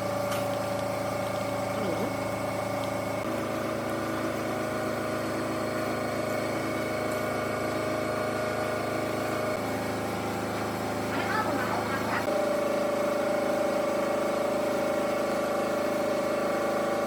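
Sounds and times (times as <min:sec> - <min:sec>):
machine motor humming: 0:00.0 - 0:17.0.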